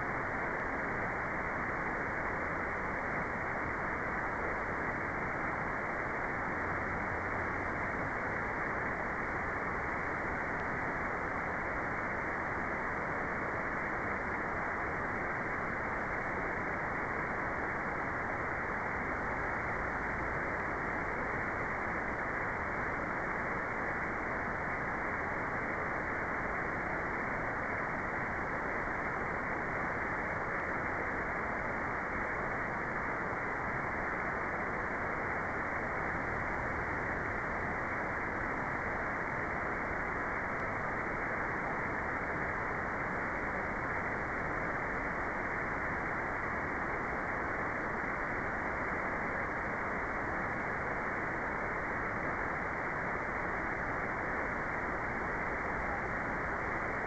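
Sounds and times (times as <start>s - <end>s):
muffled white noise: 0.0s - 57.0s.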